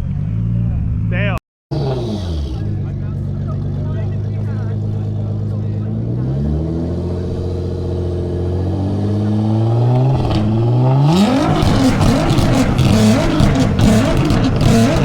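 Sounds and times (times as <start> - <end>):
exhaust crackles: 0.1 - 15.0
car engine accelerating hard: 1.7 - 15.0.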